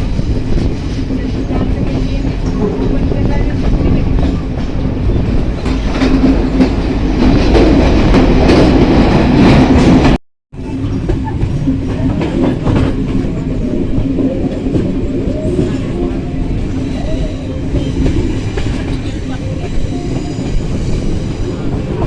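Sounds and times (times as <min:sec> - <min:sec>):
train wheels clacking on rail joints: 0:00.0 - 0:22.0.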